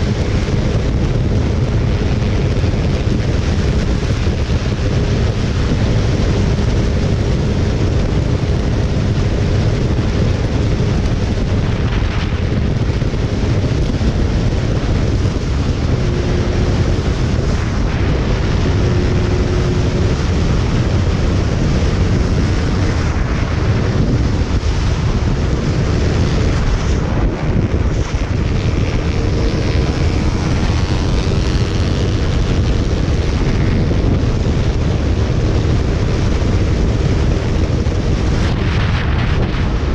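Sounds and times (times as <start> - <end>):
motorcycle engine hum: 0.0 - 39.9
wind buffeting microphone: 0.0 - 39.9.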